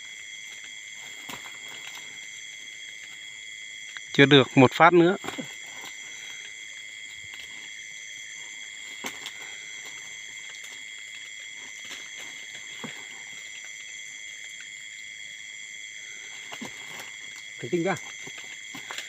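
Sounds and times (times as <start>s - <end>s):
night insects trilling: 0.0s - 19.0s.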